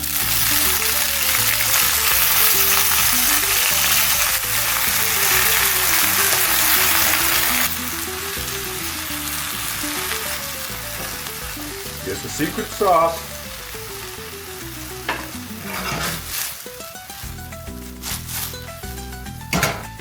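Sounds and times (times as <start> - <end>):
spinach sizzling in a pan: 0.0 - 20.0.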